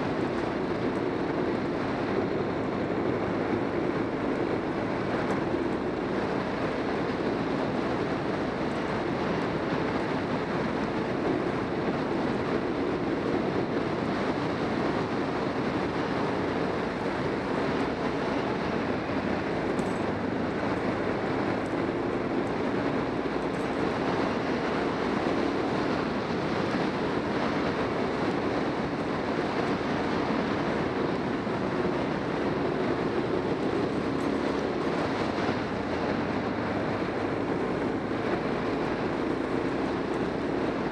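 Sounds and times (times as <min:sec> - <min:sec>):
motorcycle engine cruising: 0:00.0 - 0:40.9
road noise: 0:00.0 - 0:40.9
wind: 0:00.0 - 0:40.9.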